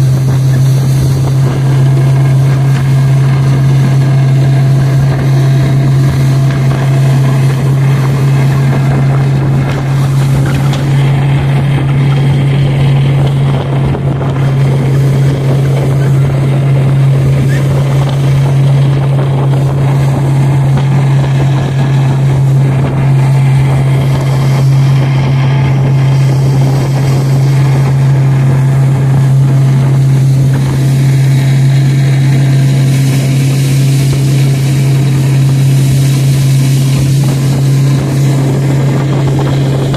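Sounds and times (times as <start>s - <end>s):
motorboat engine droning: 0.0s - 39.9s
water rushing: 0.0s - 39.9s.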